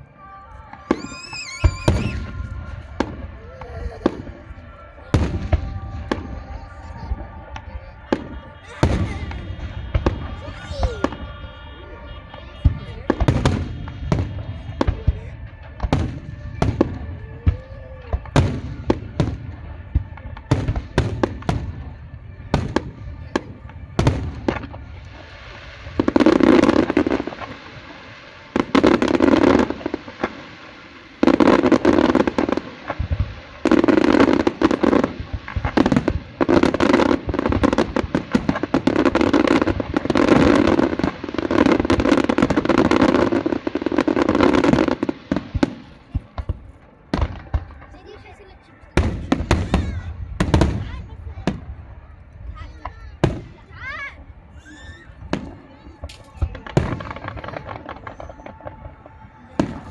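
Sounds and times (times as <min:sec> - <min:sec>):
firework bangs: 0:00.0 - 0:59.9
firework crackling volleys: 0:00.0 - 0:59.9.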